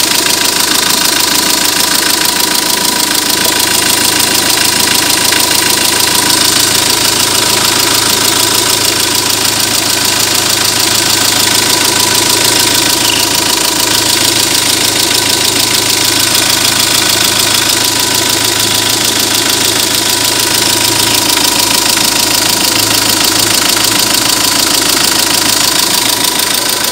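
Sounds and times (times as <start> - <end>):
diesel engine idling with clatter: 0.0 - 26.9.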